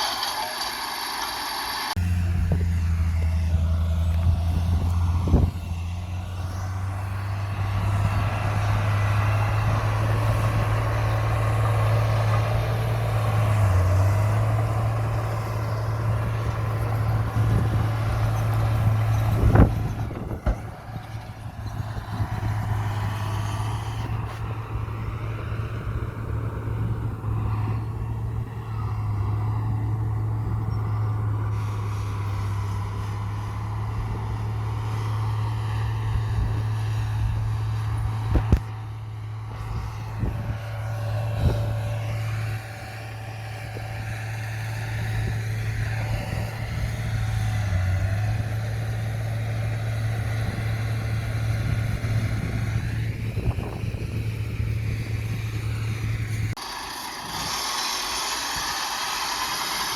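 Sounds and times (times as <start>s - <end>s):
heavy diesel machinery droning: 0.0s - 59.9s.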